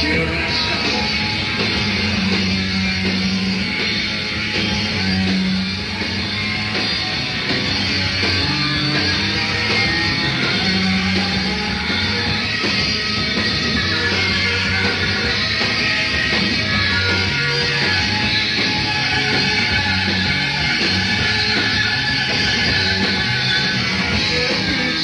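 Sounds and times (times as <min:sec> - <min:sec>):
bass line: 0:00.0 - 0:25.0
electric guitar: 0:00.0 - 0:25.0
live rock band playing: 0:00.0 - 0:25.0.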